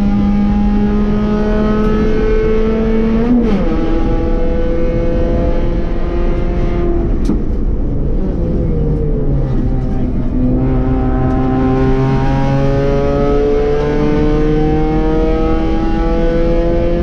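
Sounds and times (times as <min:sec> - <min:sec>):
race car engine at full throttle: 0:00.0 - 0:17.0.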